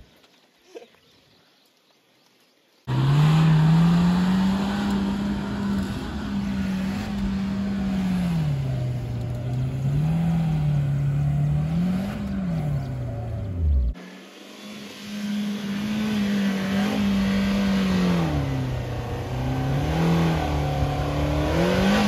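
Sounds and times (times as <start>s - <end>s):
suv engine revving: 2.9s - 22.0s.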